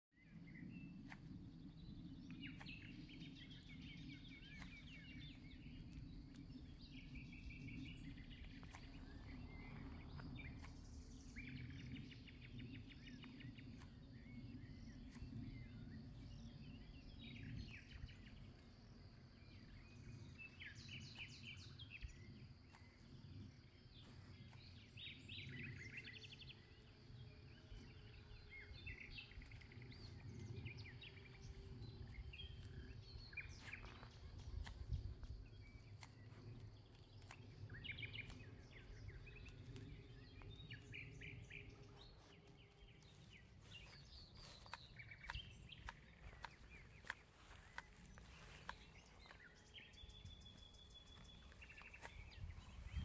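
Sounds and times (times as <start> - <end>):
steady low rumble: 0.2 - 53.0
songbirds singing trilled phrases: 0.3 - 53.0.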